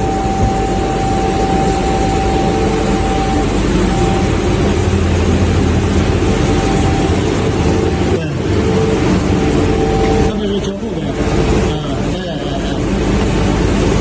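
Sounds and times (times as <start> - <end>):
industrial machinery din: 0.0 - 14.0
low hum: 0.0 - 14.0
steady whine: 0.0 - 14.0.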